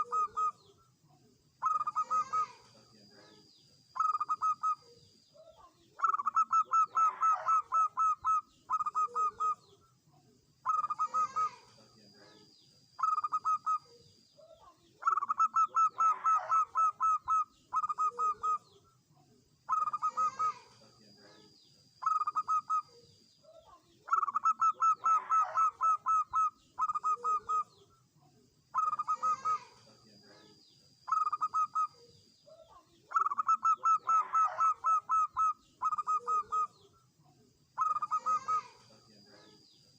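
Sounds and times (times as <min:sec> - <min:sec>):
dove cooing: 0:00.0 - 0:00.8, 0:01.6 - 0:03.4, 0:04.0 - 0:09.8, 0:10.6 - 0:12.4, 0:13.0 - 0:18.8, 0:19.7 - 0:27.9, 0:28.7 - 0:36.9, 0:37.8 - 0:39.6
faint high-pitched steady tone: 0:00.0 - 0:39.9.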